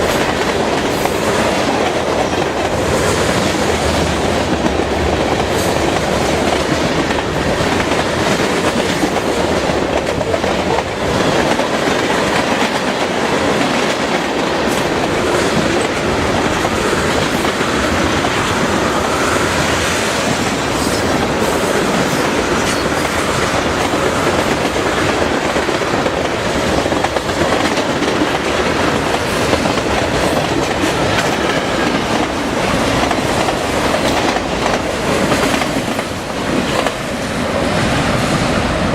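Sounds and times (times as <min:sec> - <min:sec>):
wheels clicking over rail joints: 0:00.0 - 0:19.1, 0:19.7 - 0:37.1
steel wheels rumbling on rail: 0:00.0 - 0:38.9.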